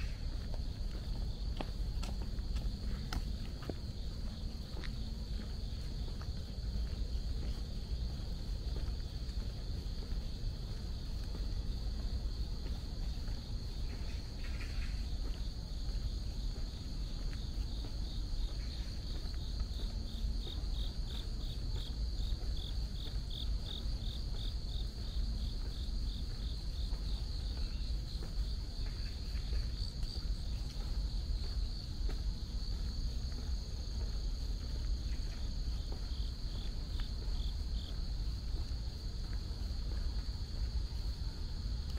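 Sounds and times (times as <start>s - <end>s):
insects trilling: 0.0s - 41.9s
steady low rumble: 0.0s - 41.9s.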